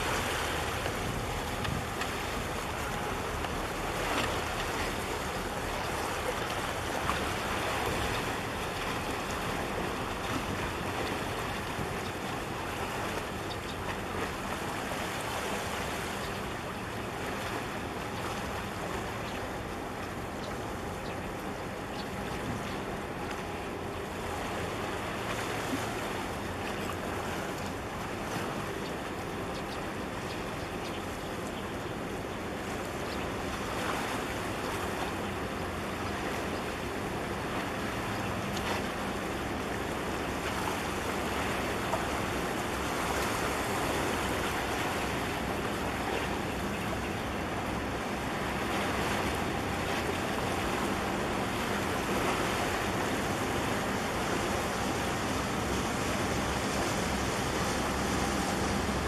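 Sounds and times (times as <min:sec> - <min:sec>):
ship low hum: 0:00.0 - 0:59.0.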